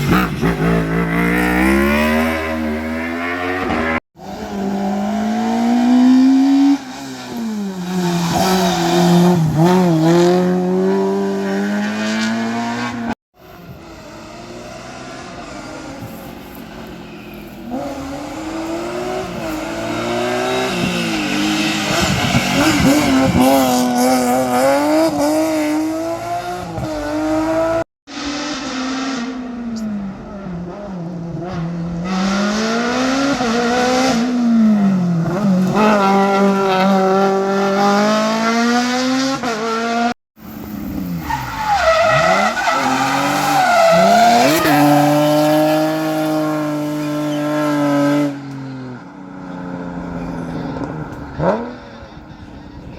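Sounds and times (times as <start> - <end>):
race car engines revving: 0.0 - 52.9.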